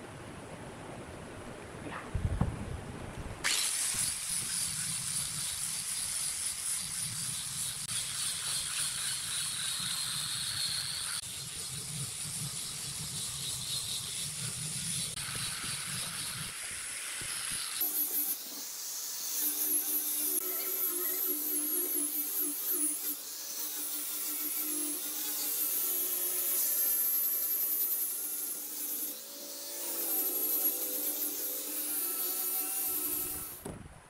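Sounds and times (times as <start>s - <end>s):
angle grinder sanding wood: 3.5s - 33.7s.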